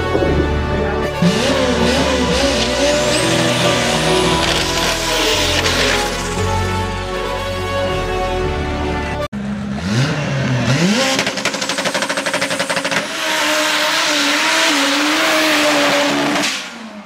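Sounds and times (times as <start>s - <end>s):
car engine revving: 0.0s - 7.1s, 9.4s - 17.0s.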